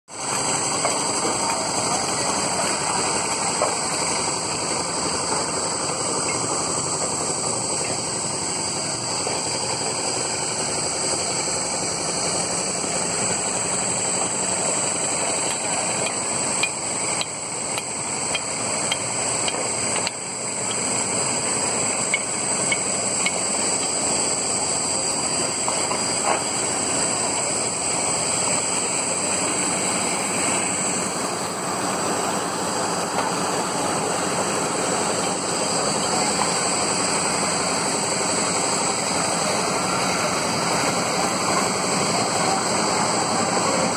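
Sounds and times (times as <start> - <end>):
constant hiss: 0.1 - 43.9
engine running steadily: 0.1 - 43.9.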